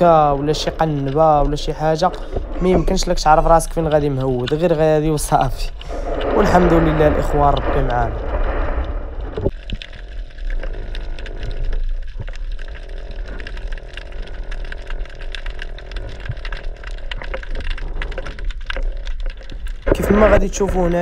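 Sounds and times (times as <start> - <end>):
low underwater rumble: 0.0 - 21.0
underwater crackling clicks: 0.0 - 21.0.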